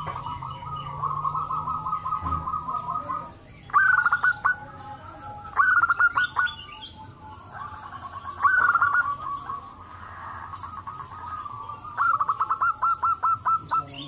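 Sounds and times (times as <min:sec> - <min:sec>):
soft dove cooing: 0:00.0 - 0:06.6, 0:07.3 - 0:14.0
doves staccato cooing bursts: 0:00.0 - 0:14.0.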